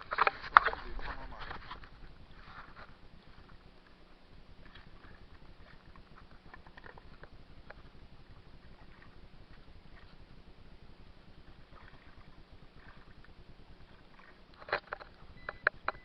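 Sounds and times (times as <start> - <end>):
water lapping against a kayak: 0.0 - 16.0.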